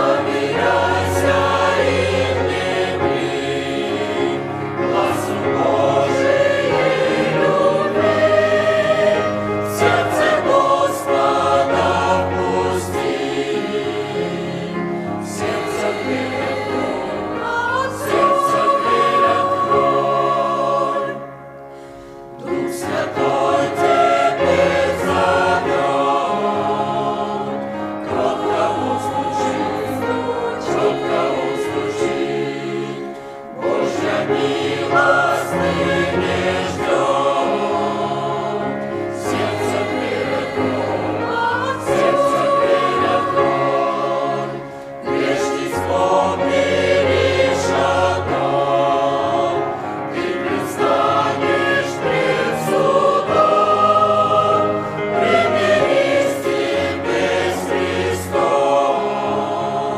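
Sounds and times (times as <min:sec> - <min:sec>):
church choir singing a hymn: 0:00.0 - 0:59.9.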